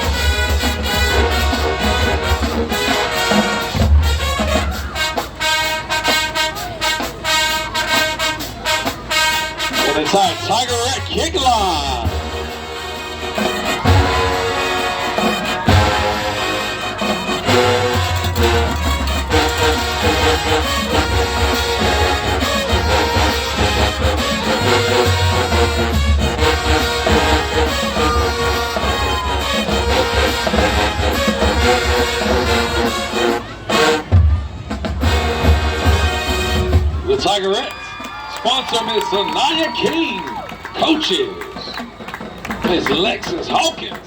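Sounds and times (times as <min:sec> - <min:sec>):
heavy steady drum beat: 0:00.0 - 0:37.3
brass horns: 0:00.0 - 0:44.0.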